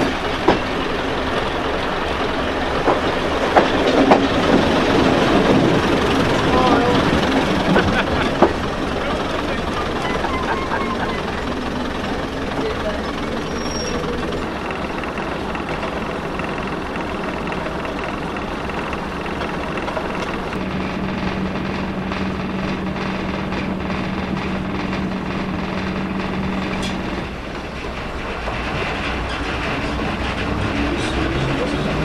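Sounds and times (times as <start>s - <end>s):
diesel train engine rumble: 0.0s - 32.0s
steady engine hum: 0.0s - 32.0s
train wheels on rails: 0.0s - 32.0s.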